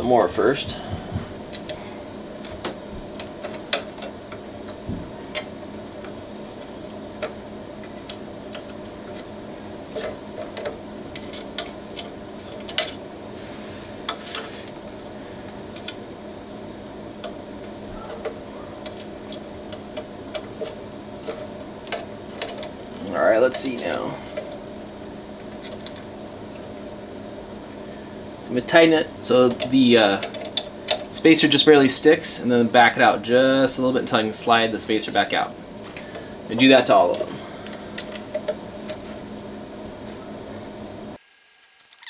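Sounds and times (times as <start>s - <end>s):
steady low hum: 0.0s - 41.2s.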